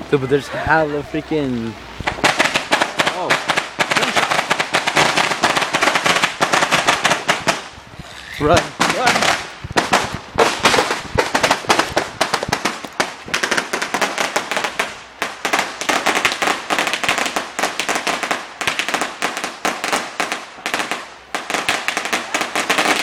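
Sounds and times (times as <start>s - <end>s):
fireworks crackling and banging: 0.0s - 23.0s.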